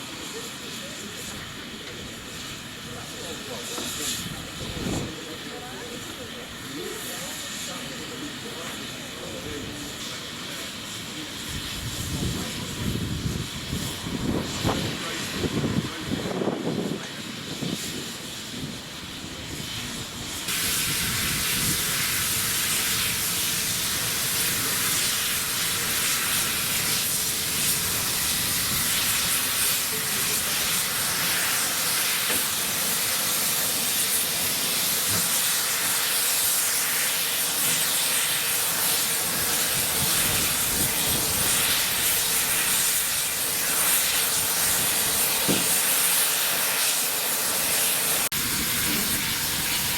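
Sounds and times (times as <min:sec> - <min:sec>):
steam locomotive hissing steam: 0:00.0 - 0:49.9.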